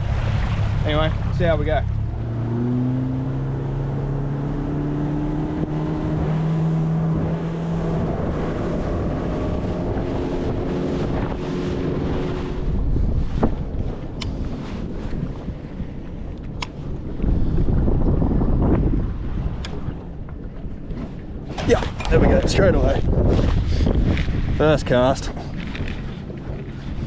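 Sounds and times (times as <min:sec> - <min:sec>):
outboard motor running: 0:00.0 - 0:27.0
wind buffeting microphone: 0:00.0 - 0:27.0.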